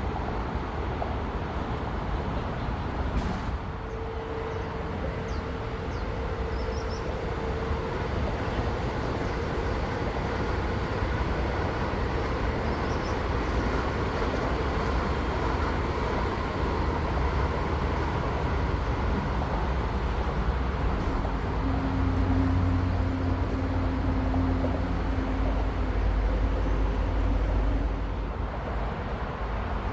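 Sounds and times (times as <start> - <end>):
high-speed train rushing past: 0.0 - 29.9.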